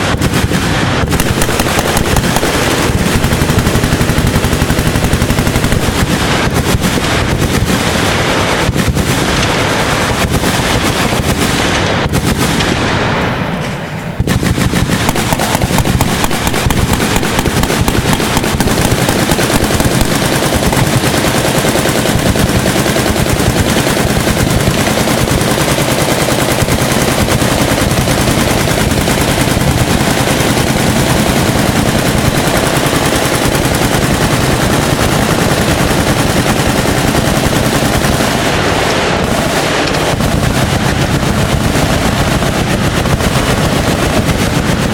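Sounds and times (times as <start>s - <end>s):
machine guns firing: 0.0s - 44.9s.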